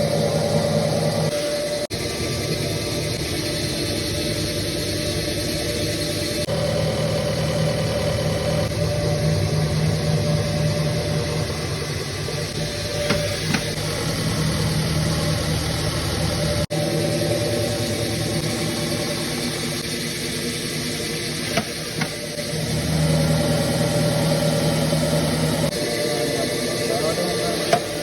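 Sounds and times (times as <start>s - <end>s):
milling machine drone: 0.0s - 28.0s.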